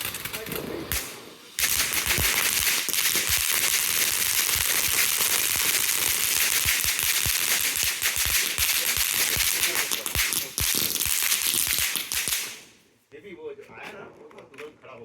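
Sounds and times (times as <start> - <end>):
firework crackling pops: 0.0 - 12.8
firework hissing sparks: 0.0 - 12.8.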